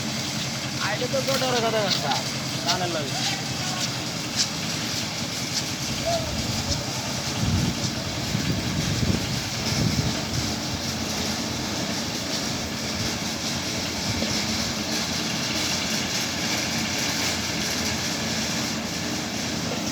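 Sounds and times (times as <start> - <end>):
vehicle running rumble: 0.0 - 19.9.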